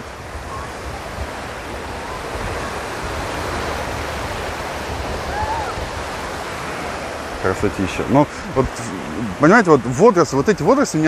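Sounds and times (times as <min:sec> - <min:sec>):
sea waves breaking on sand: 0:00.0 - 0:11.0.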